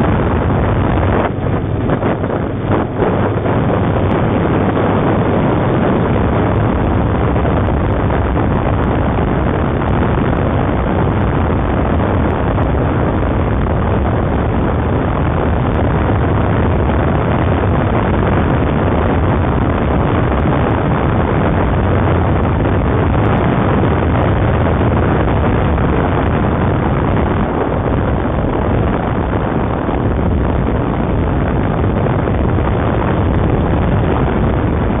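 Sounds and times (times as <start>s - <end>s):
low rumble: 0.0s - 35.0s
road noise: 0.0s - 35.0s
wind rushing on microphone: 0.0s - 35.0s.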